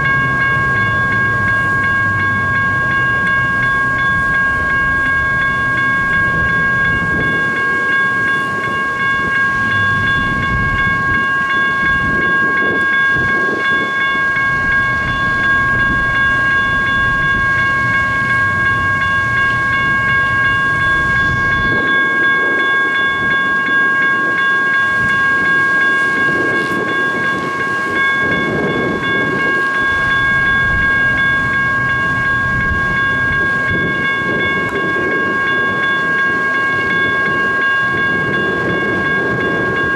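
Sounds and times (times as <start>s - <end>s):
railroad crossing bells ringing: 0.0s - 39.9s.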